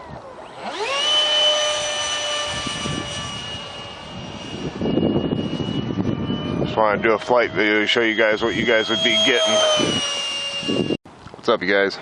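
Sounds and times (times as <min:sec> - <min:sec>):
electric ducted fan whine: 0:00.0 - 0:11.2.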